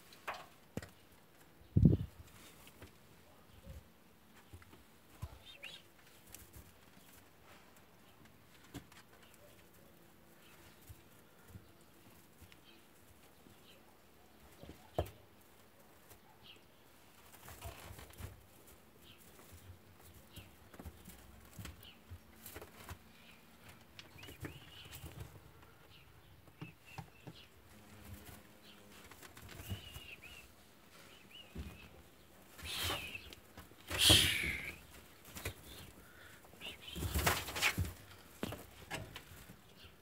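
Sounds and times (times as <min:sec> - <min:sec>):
rabbits rustling in straw: 0:00.0 - 0:40.0.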